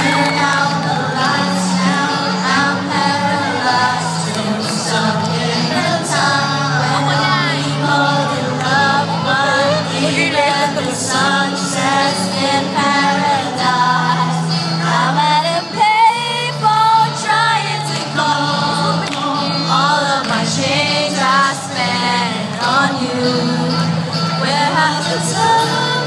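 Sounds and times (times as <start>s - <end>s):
pop music with singing: 0.0s - 26.0s.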